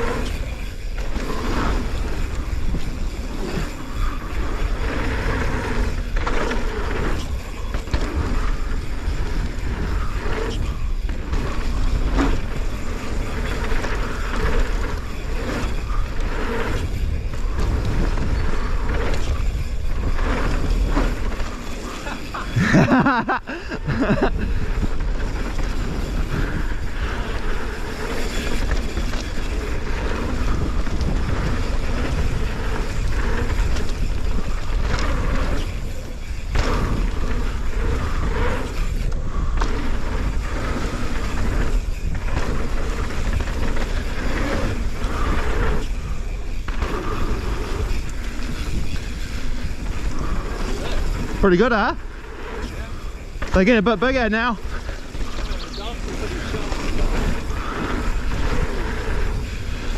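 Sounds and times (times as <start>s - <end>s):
mountain bike on dirt trail: 0.0s - 59.9s
wind buffeting microphone: 0.0s - 59.9s.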